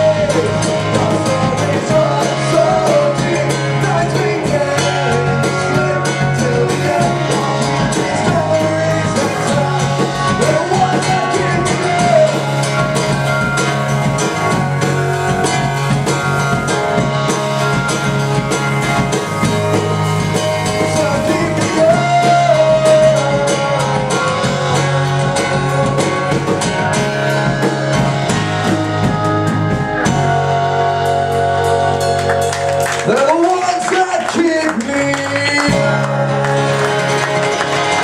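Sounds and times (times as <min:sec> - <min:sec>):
drum kit: 0:00.0 - 0:38.0
strummed acoustic guitar: 0:00.0 - 0:38.0.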